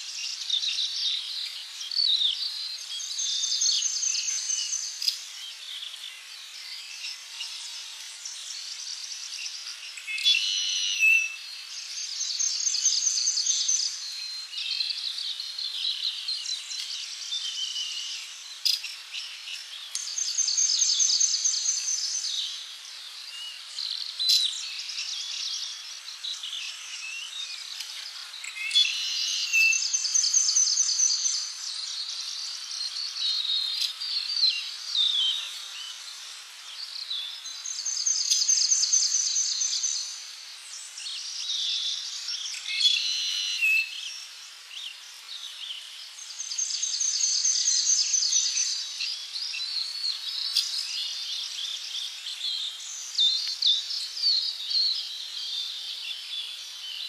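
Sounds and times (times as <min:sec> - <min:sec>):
birds chirping and calling: 0:00.0 - 0:57.0
faint steady hiss: 0:00.0 - 0:57.0.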